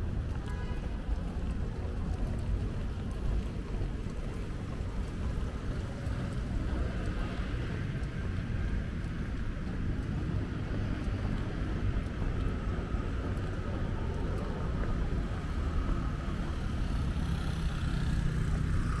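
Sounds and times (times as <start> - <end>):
passing traffic rumble: 0.0 - 19.0.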